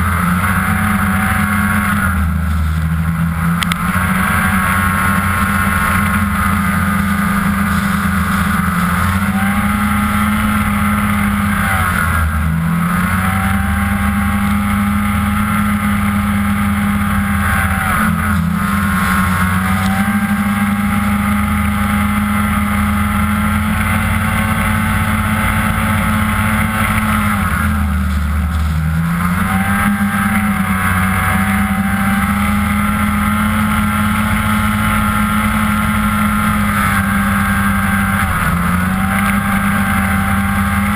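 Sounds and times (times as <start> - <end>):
snowmobile engine running hard: 0.0 - 40.9.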